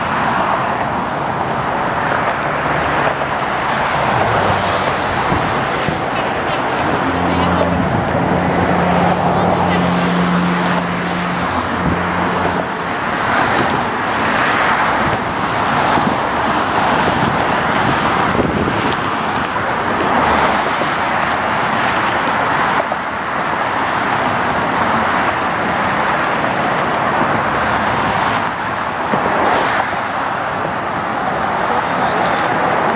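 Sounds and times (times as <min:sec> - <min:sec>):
road traffic rushing: 0:00.0 - 0:32.9.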